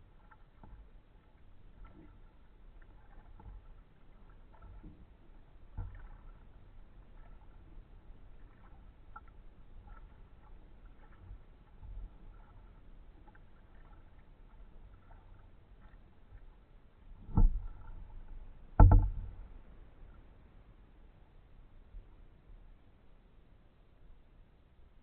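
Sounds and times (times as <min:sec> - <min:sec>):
paddle strokes in water: 0:00.0 - 0:23.1.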